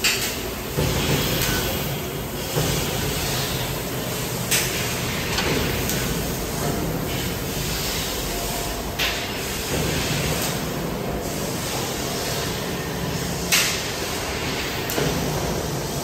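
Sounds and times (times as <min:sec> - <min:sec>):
laser cutter hissing: 0:00.6 - 0:16.0.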